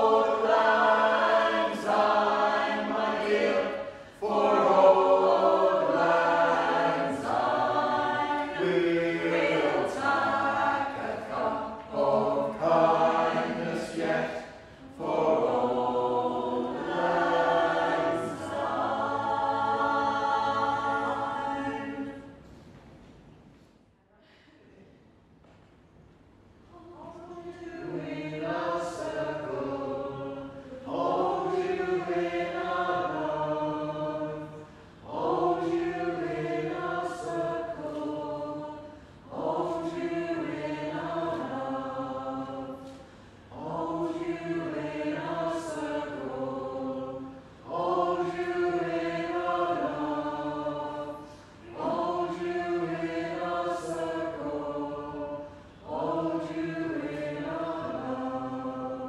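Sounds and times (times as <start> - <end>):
choir singing in harmony: 0.0 - 22.4, 26.9 - 59.0.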